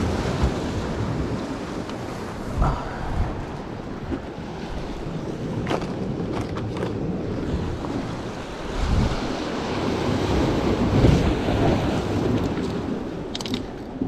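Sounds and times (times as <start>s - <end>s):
waves washing against rocks: 0.0s - 14.0s
wind buffeting microphone: 0.0s - 14.0s.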